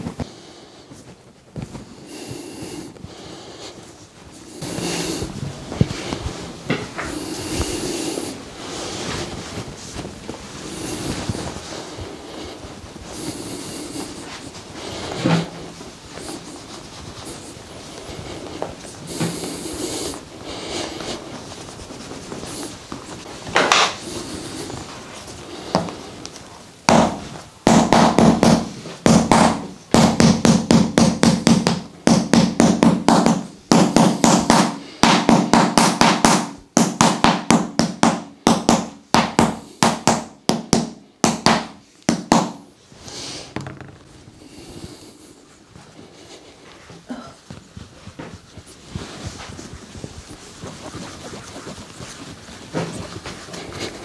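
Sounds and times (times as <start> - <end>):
massage ball scuffing on skin: 0.0 - 54.0.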